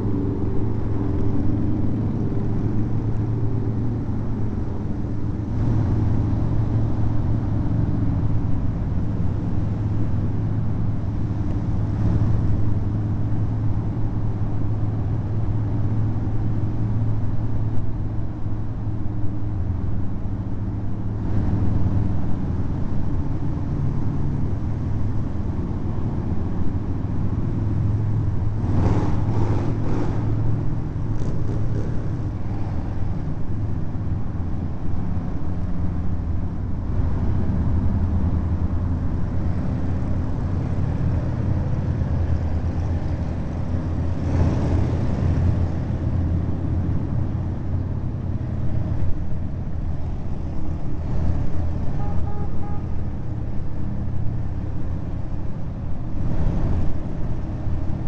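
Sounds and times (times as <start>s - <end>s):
motorcycle engines cruising: 0.0s - 58.0s.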